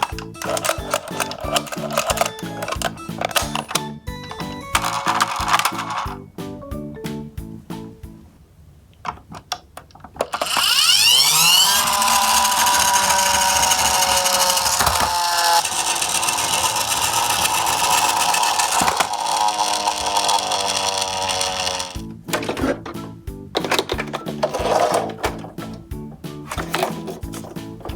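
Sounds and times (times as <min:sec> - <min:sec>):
toy truck wheels rattling: 0:00.0 - 0:06.2, 0:10.1 - 0:23.0, 0:23.6 - 0:27.9.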